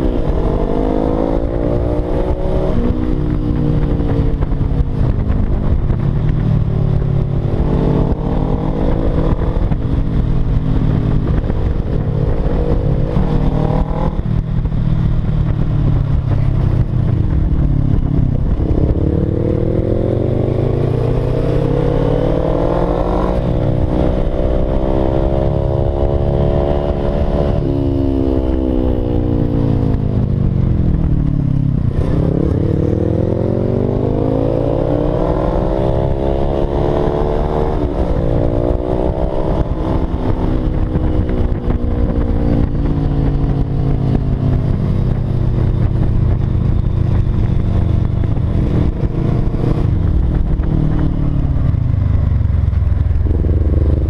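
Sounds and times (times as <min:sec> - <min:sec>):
motorcycle engine: 0:00.0 - 0:54.0
road rumble: 0:00.0 - 0:54.0
wind: 0:00.0 - 0:54.0.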